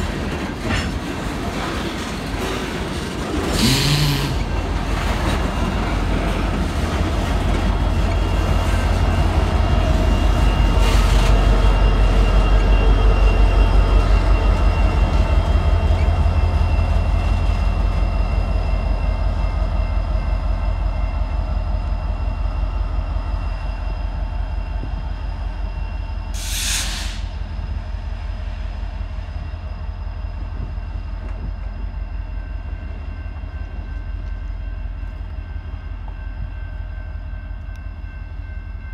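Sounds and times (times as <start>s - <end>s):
diesel locomotive rumbling: 0.0s - 38.9s
train wheels clattering and squealing: 0.0s - 38.9s.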